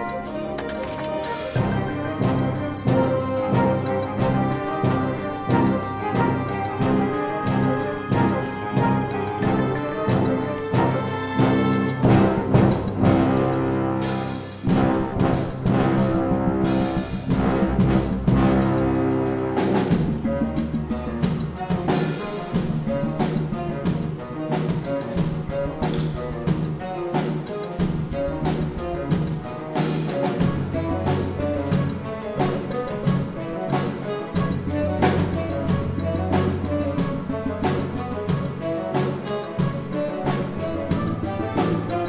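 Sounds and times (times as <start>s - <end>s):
orchestra with brass playing: 0.0s - 42.0s.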